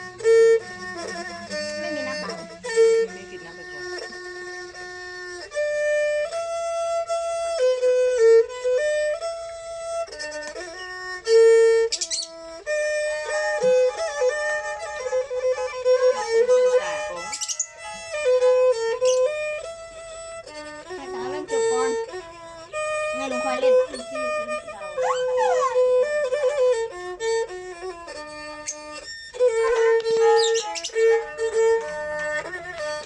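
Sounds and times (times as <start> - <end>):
bowed fiddle melody: 0.0 - 33.0.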